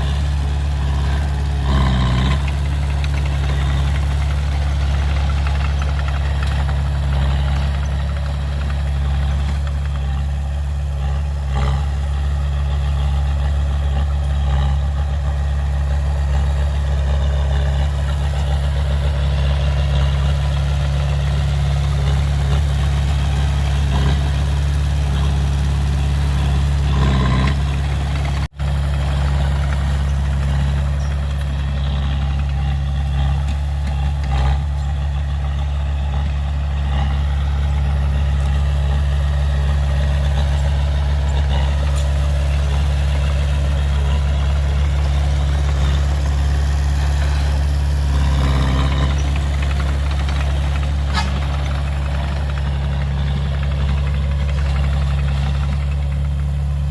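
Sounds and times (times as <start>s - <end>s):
heavy machinery diesel engine running: 0.0s - 56.9s.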